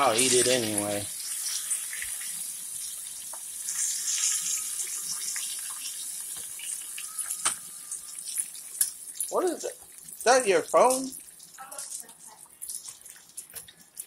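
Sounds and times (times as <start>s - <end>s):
fish deep-frying in oil: 0.0s - 14.0s.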